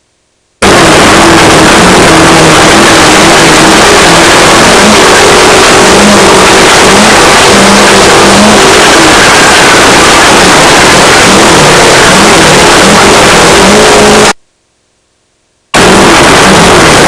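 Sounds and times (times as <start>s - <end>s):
race car engine revving: 0.6s - 14.4s, 15.8s - 17.0s.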